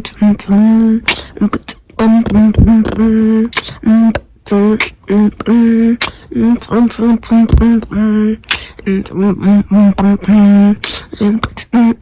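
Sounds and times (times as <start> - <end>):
song with held vocal melody: 0.0 - 12.0.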